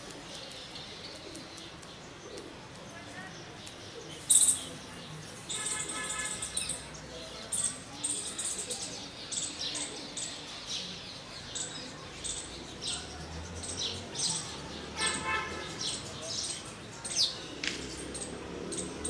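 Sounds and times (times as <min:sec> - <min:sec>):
birds chirping: 0:00.3 - 0:19.0.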